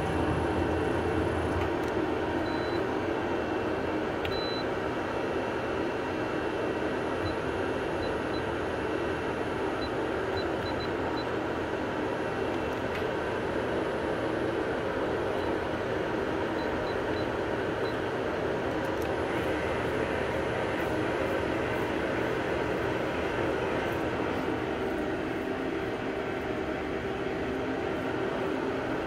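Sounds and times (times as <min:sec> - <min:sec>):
lathe humming and whirring: 0:00.0 - 0:29.0.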